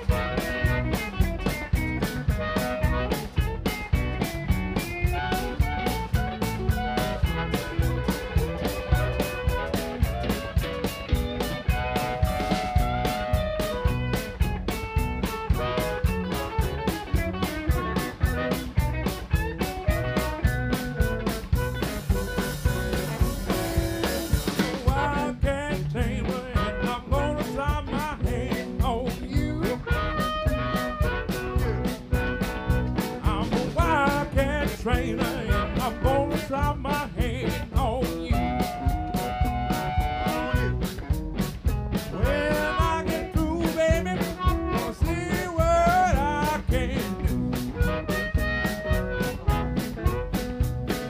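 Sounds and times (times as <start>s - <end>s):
blues-rock band playing: 0.0s - 51.0s
harmonica bent notes: 0.0s - 51.0s.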